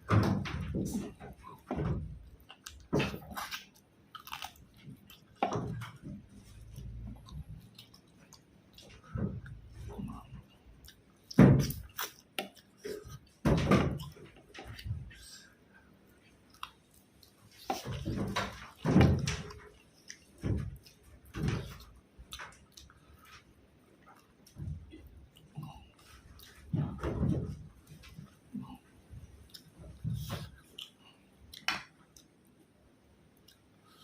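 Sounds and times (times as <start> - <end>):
person chewing: 1.3 - 13.4, 14.0 - 21.1, 24.0 - 26.7, 27.9 - 32.6, 33.3 - 34.0.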